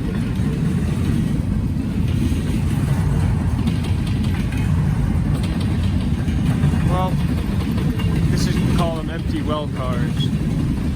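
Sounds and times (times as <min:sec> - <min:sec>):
freight train wheels rumbling: 0:00.0 - 0:10.9.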